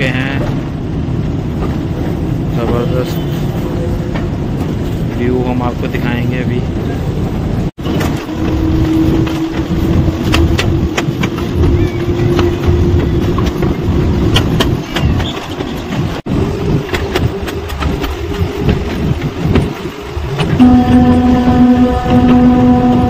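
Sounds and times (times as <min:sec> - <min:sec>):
train coach rumbling and rattling: 0:00.0 - 0:23.0.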